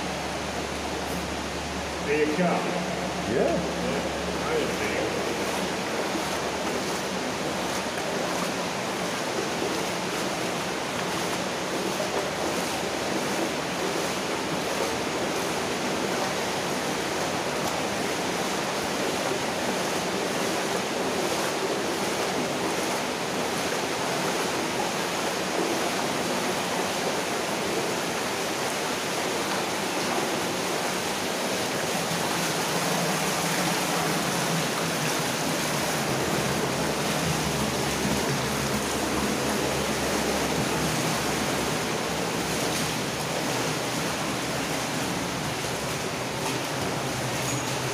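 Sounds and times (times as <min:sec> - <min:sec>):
water rushing through culvert: 0:00.0 - 0:47.9.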